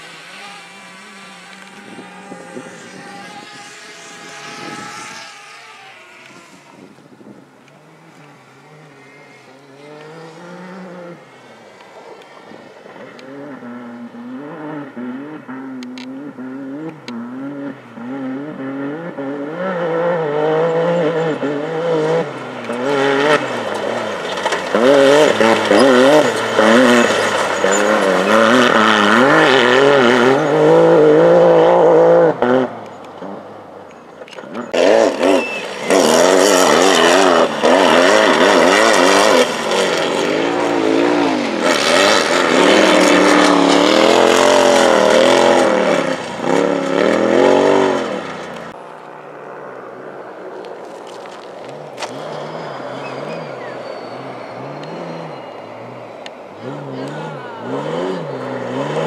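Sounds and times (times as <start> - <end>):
gravel noise: 0.0 - 18.1, 20.9 - 59.0
off-road vehicle engines revving: 0.0 - 59.0.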